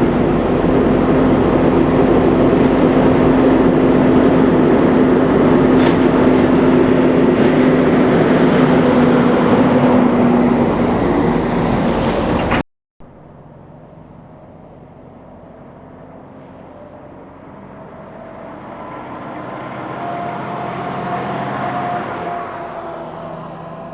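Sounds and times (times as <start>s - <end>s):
heavy road noise: 0.0s - 23.9s
muffled engine: 0.0s - 23.9s
truck diesel engine drone: 0.0s - 23.9s.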